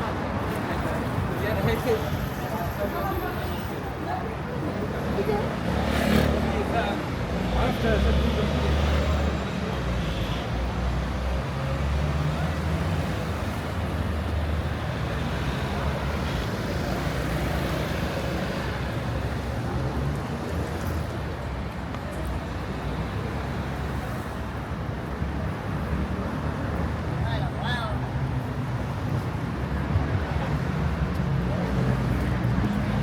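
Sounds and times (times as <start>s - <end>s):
traffic rumble of passing vehicles: 0.0s - 33.0s.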